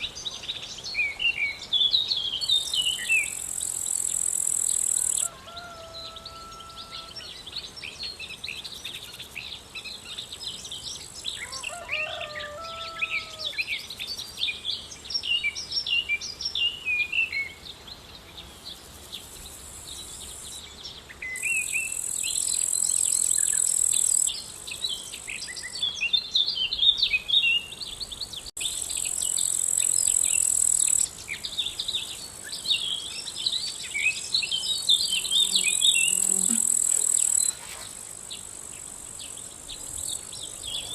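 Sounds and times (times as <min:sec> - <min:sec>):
birds chirping and twittering: 0:00.0 - 0:40.9
crickets buzzing: 0:01.4 - 0:05.3, 0:06.5 - 0:16.5, 0:18.4 - 0:25.9, 0:27.3 - 0:40.9.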